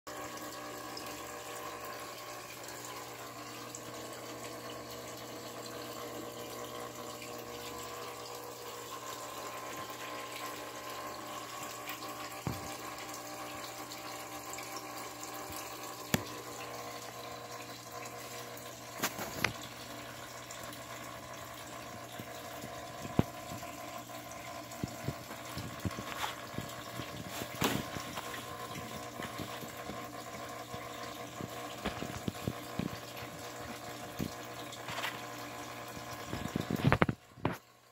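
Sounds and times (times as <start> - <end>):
pump humming: 0.1 - 37.9.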